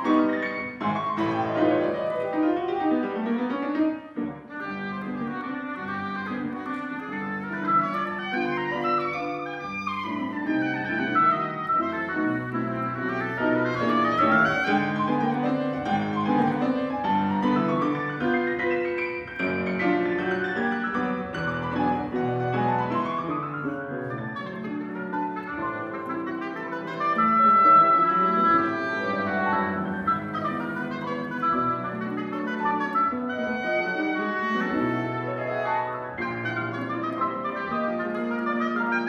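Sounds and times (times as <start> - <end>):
piano chords: 0.0 - 39.0
woodwind solo runs: 4.5 - 18.6, 21.7 - 39.0.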